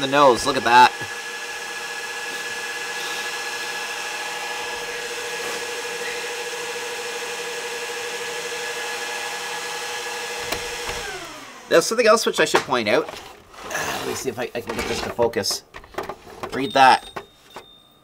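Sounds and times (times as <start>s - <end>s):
cooling fans whirring: 0.0s - 17.8s.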